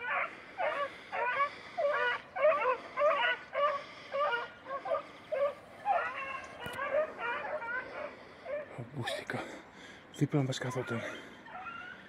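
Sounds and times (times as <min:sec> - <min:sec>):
hound baying yelps: 0:00.0 - 0:08.8, 0:10.6 - 0:12.0.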